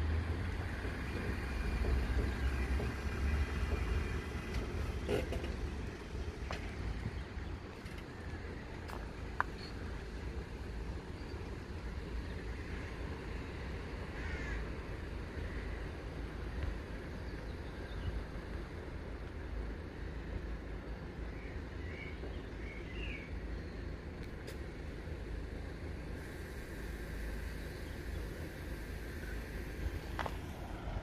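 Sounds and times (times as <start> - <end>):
low outdoor wind rumble: 0.0 - 31.0.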